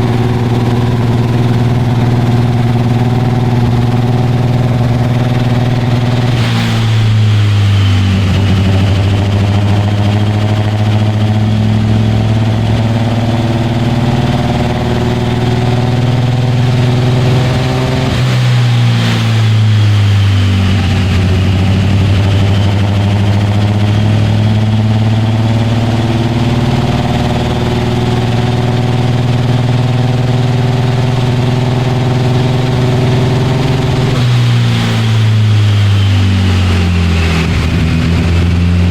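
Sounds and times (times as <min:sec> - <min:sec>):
car engine running loudly: 0:00.0 - 0:38.9.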